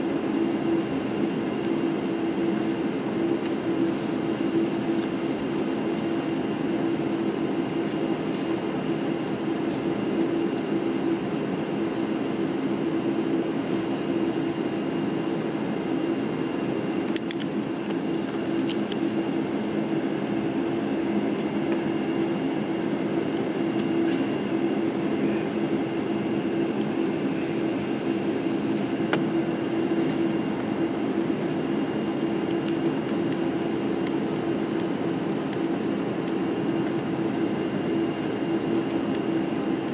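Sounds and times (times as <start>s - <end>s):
jet engines droning with whine: 0.0s - 39.9s.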